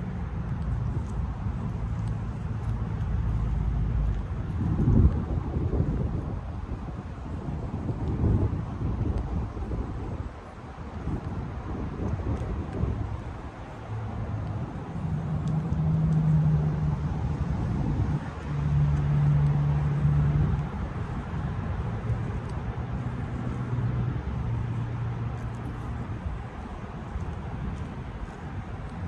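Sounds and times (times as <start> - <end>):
outdoor background noise: 0.0 - 29.0
vehicle engine humming: 0.0 - 29.0.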